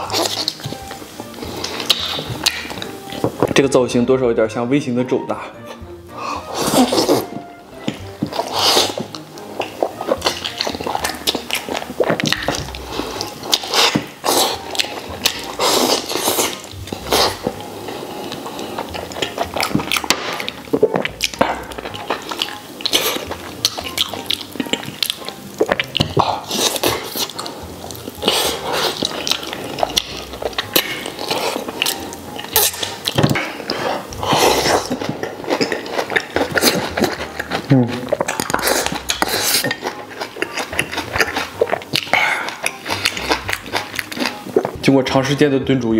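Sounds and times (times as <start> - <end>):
wet chewing and lip smacking: 0.0 - 3.5, 5.6 - 44.9.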